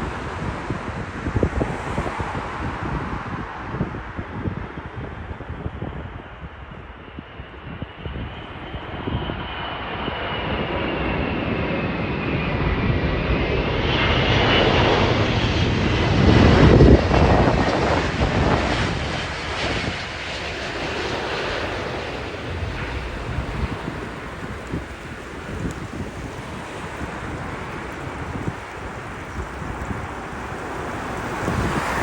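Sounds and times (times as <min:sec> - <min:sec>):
jet airliner passing overhead: 0:00.0 - 0:32.0.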